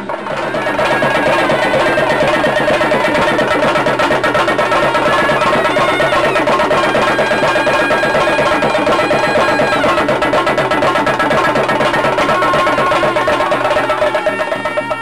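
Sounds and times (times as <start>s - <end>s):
cymbals: 0.0s - 15.0s
drums beaten in fast strokes: 0.0s - 15.0s
wind instrument holding high notes: 0.1s - 15.0s.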